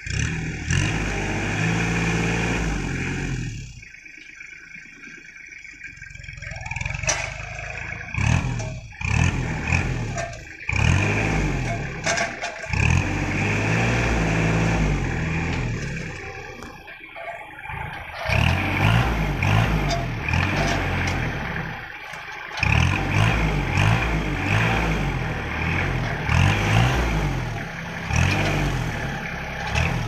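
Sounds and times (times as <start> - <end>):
diesel tractor engine revving: 0.0 - 30.0.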